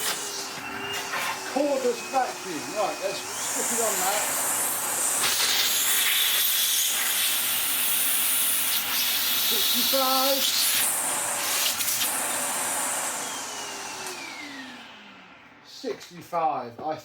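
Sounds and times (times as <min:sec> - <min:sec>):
vacuum cleaner motor with rushing air: 0:00.0 - 0:15.6.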